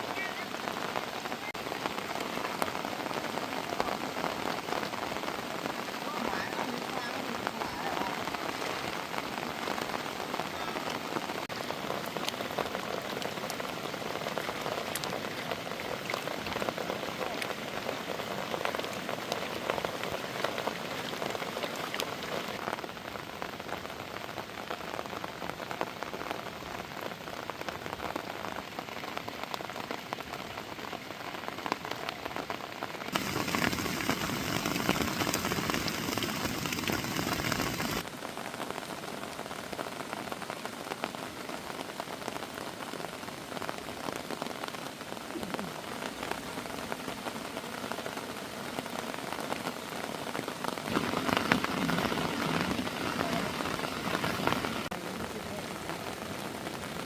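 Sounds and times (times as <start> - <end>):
heavy rain falling: 0.0 - 57.0
raindrops ticking on surfaces: 0.0 - 57.0.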